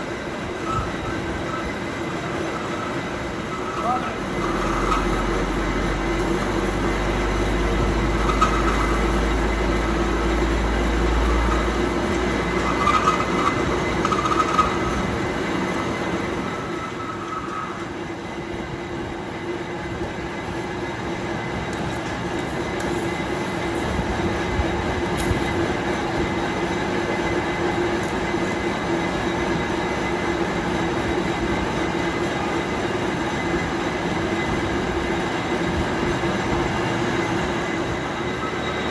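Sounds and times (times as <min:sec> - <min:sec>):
machinery humming: 0:00.0 - 0:38.9.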